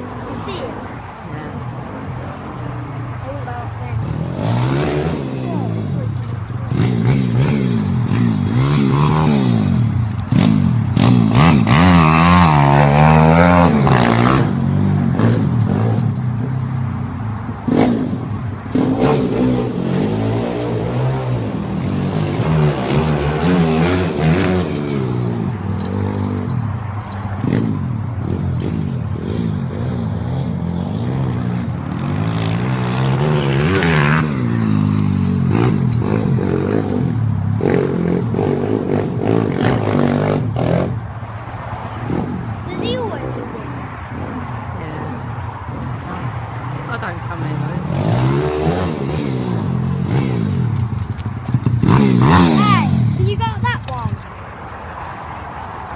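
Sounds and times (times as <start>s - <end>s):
motorbike engine revving: 3.2s - 41.2s, 42.0s - 54.3s.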